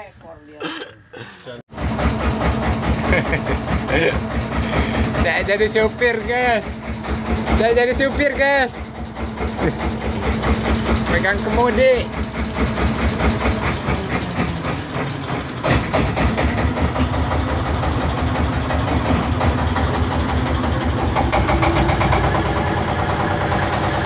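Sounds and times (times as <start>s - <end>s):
boat engine chugging: 1.7s - 24.0s.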